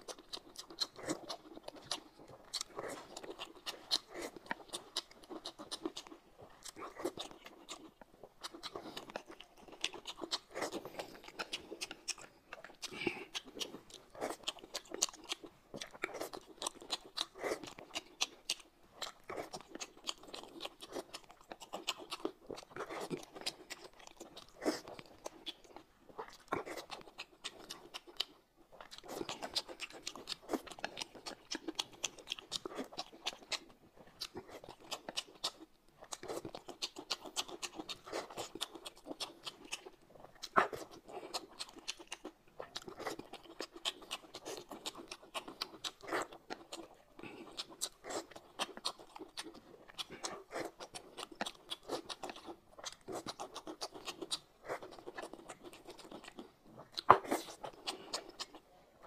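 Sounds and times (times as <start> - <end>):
wet chewing sounds: 0.0 - 59.0.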